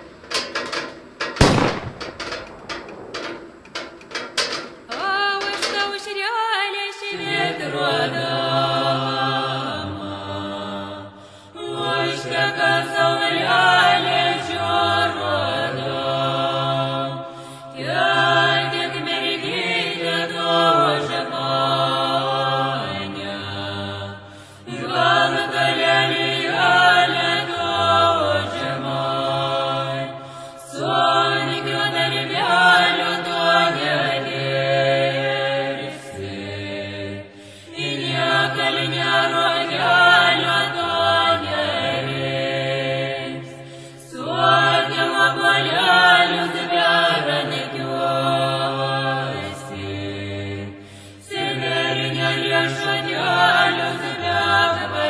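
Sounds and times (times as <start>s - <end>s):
chant-like singing: 6.7s - 55.0s.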